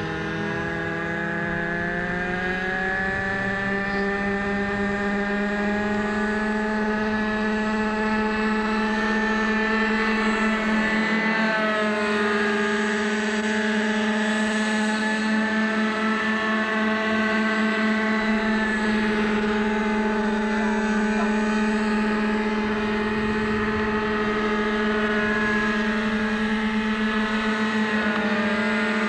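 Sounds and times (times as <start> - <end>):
model helicopter engine whining: 0.0 - 29.0.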